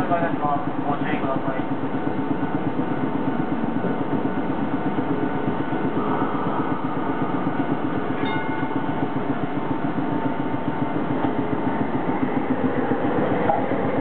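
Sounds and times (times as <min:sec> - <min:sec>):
streetcar machinery pulsing: 0:00.0 - 0:14.0.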